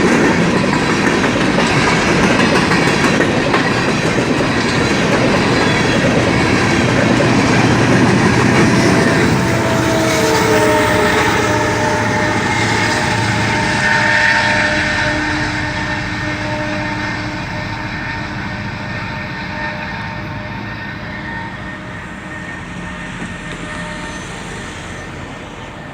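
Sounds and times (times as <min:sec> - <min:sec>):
freight train rolling past: 0:00.0 - 0:25.9
steady tones dipping in pitch: 0:03.7 - 0:25.9.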